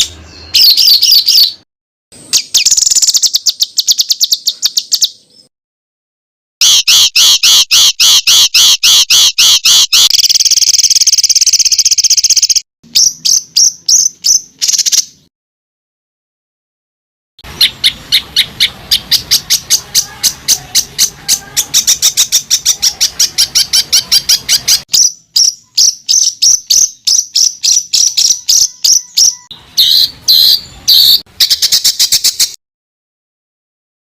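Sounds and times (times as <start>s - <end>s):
songbird singing: 0.0s - 1.6s, 2.2s - 5.5s, 6.6s - 15.3s, 17.4s - 32.6s.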